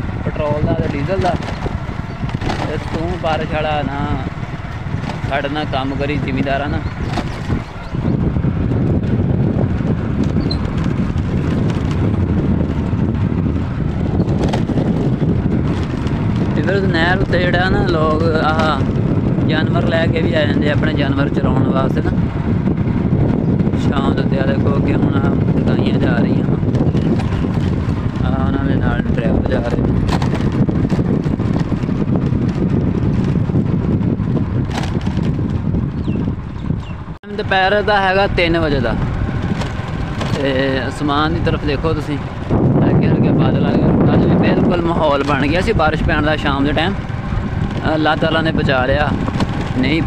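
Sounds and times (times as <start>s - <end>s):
motorcycle running: 0.0s - 50.0s
vehicle engine droning: 0.0s - 50.0s
wind buffeting microphone: 0.0s - 50.0s.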